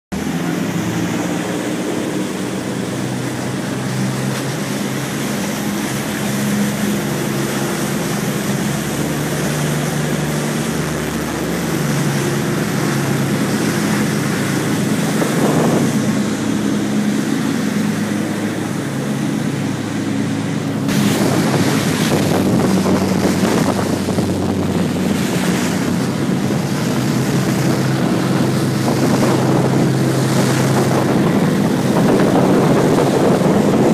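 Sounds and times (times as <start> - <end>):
motorboat engines humming: 0.1 - 33.9
water rushing: 0.1 - 33.9
wind buffeting microphone: 0.4 - 33.9.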